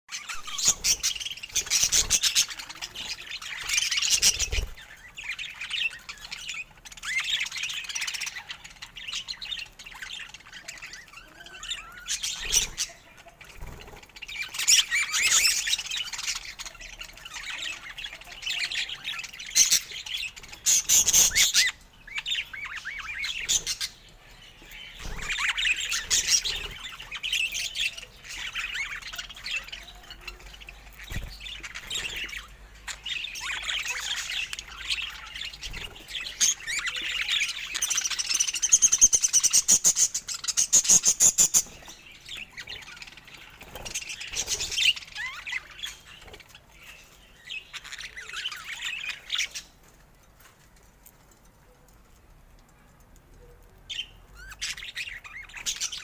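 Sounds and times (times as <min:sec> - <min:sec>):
budgerigars chirping and chattering: 0:00.1 - 0:52.3, 0:53.2 - 0:56.0.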